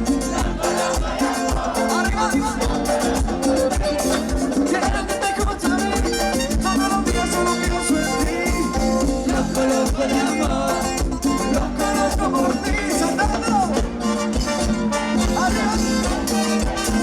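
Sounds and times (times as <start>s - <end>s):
latin dance band playing: 0.0s - 17.0s.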